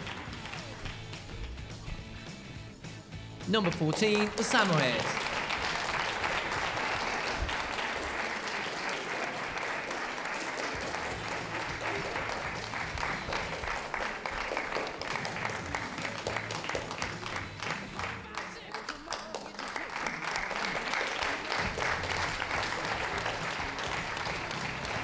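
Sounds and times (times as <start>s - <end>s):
audience applauding: 0.0s - 2.0s, 3.4s - 25.0s.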